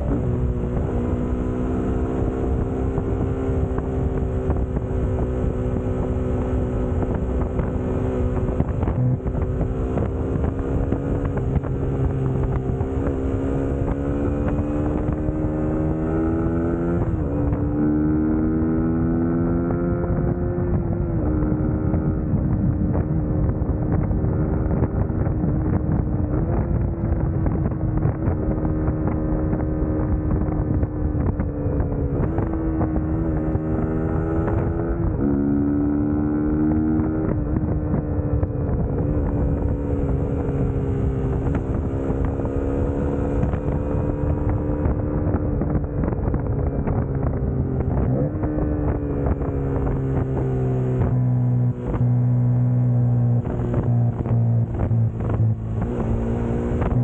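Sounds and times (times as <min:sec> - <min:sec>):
motorcycle engine running: 0:00.0 - 0:57.0
wind rumbling on microphone: 0:00.0 - 0:57.0.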